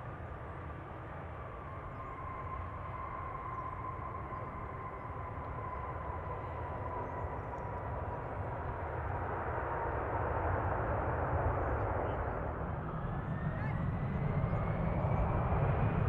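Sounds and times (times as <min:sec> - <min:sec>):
jet engines rumbling and whining: 0:00.0 - 0:16.0.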